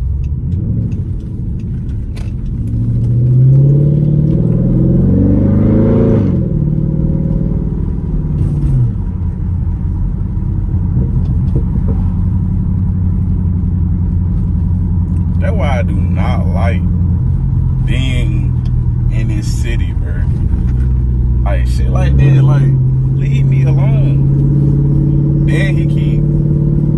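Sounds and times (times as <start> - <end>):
car engine accelerating: 0.0 - 26.9.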